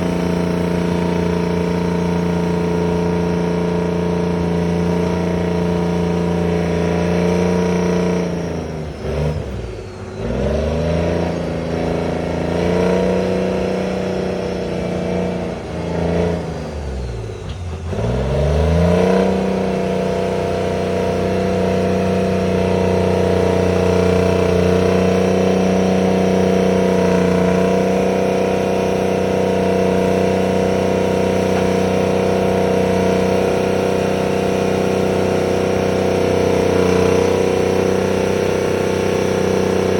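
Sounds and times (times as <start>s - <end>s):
bulldozer diesel engine revving: 0.0s - 39.9s.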